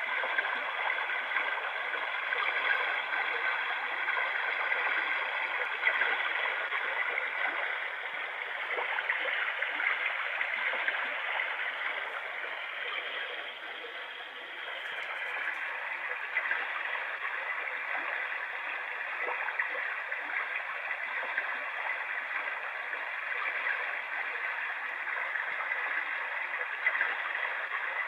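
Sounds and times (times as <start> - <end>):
running water from small speaker: 0.0 - 28.0.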